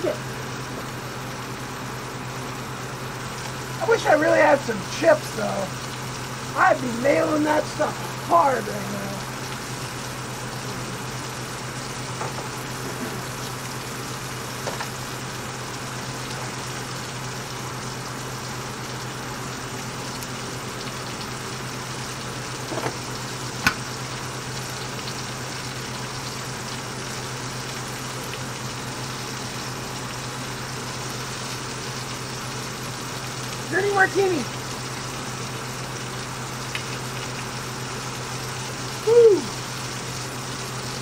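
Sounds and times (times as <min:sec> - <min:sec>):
meat sizzling in a skillet: 0:00.0 - 0:41.0.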